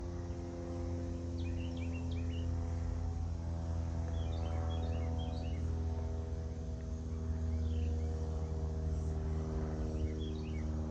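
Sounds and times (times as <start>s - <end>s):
low machine hum: 0.0s - 10.9s
small birds chirping: 0.1s - 3.4s, 4.0s - 10.9s.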